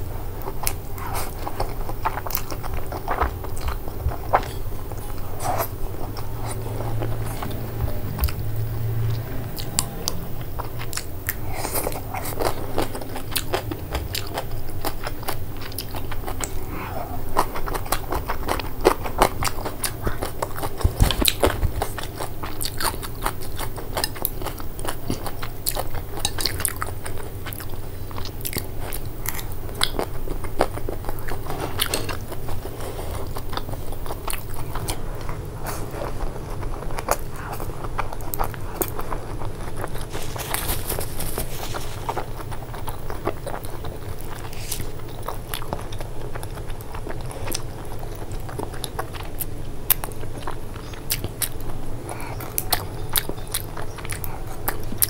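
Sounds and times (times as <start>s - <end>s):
person chewing noodles: 0.0s - 55.0s.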